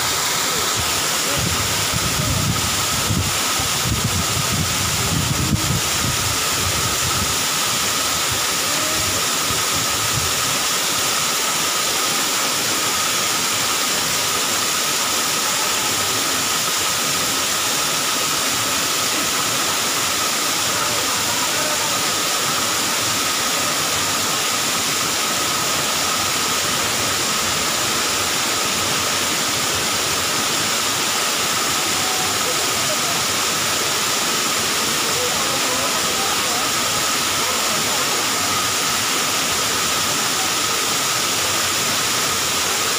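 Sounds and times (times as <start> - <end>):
small waterfall splashing: 0.0 - 42.9.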